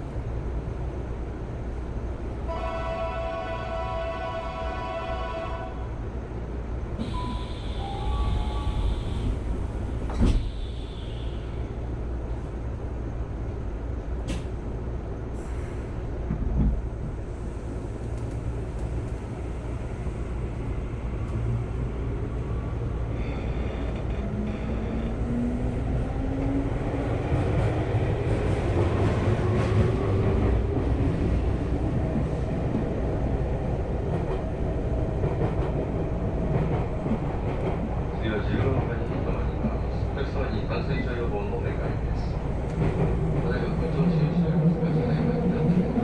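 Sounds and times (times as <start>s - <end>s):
train wheels rumbling on rails: 6.9s - 12.5s, 14.0s - 46.0s.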